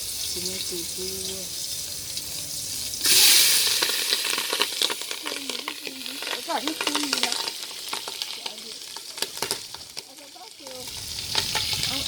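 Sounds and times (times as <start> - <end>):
food sizzling in a pot: 0.0 - 12.0
wood fire crackling: 0.0 - 12.0.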